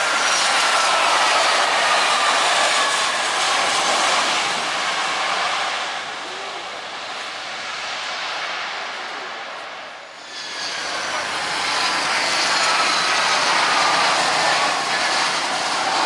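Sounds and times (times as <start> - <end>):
jet engine whine: 0.0 - 16.0
jet engines roaring: 0.0 - 16.0.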